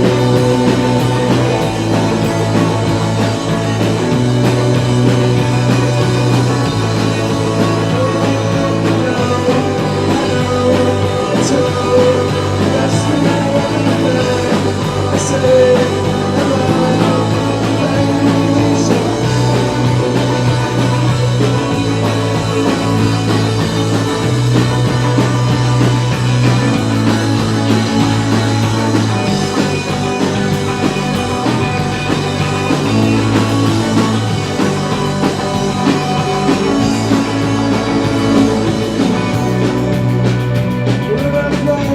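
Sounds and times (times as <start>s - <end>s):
guitar: 0.0s - 41.9s
low bass line: 0.0s - 41.9s
rock band playing live: 0.0s - 41.9s.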